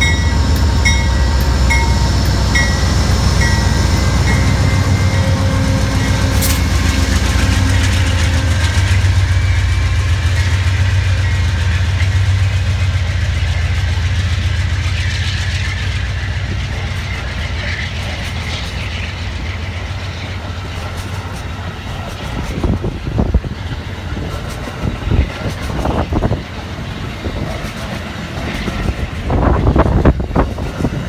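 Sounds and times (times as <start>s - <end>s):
train coaches rumbling: 0.0s - 31.0s.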